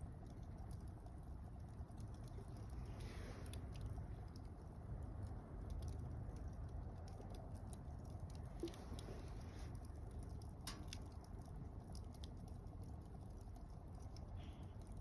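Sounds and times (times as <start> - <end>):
campfire flame rumbling: 0.0 - 15.0
fire crackling and popping: 0.0 - 15.0.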